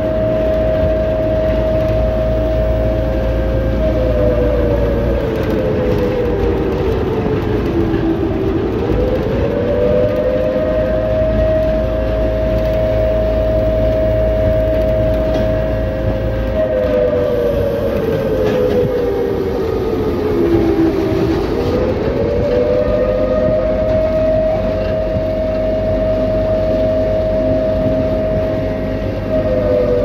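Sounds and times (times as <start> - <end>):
drive whine: 0.0 - 30.0
vehicle rumble: 0.0 - 30.0.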